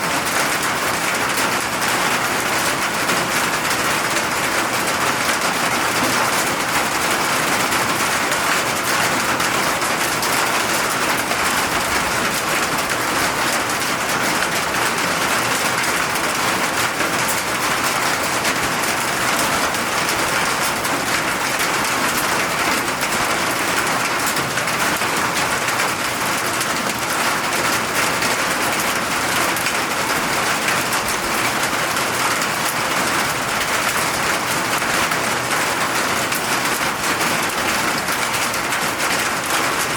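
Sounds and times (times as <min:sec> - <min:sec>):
rain pattering on hard surfaces: 0:00.0 - 0:39.9.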